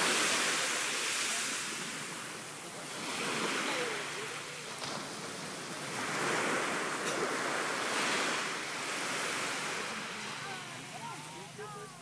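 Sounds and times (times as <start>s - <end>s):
small waves washing up beach: 0.0s - 12.0s.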